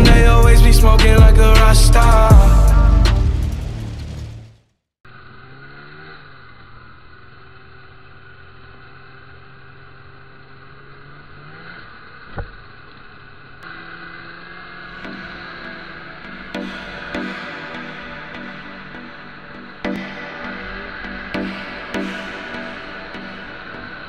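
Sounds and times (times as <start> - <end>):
snowmobile engine running: 0.0 - 4.4, 5.1 - 24.0.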